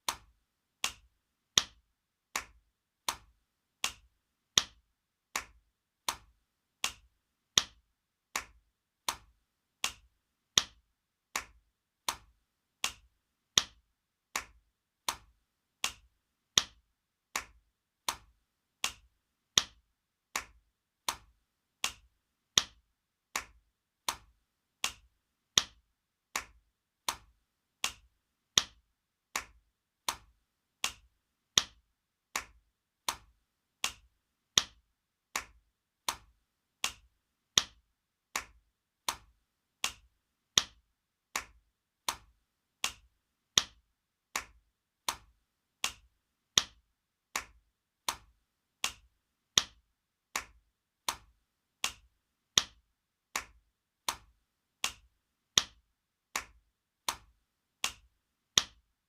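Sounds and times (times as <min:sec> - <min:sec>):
hand slapping skin: 0:00.0 - 0:55.8, 0:56.4 - 0:58.8.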